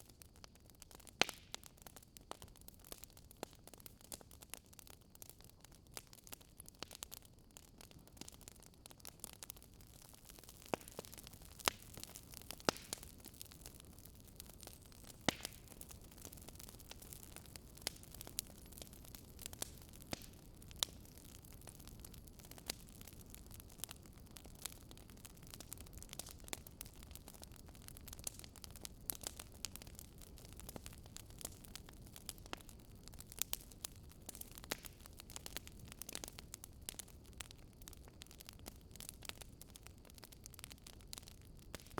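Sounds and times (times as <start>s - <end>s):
fire crackling and popping: 0.0s - 41.9s
low fire rumble: 0.0s - 41.9s.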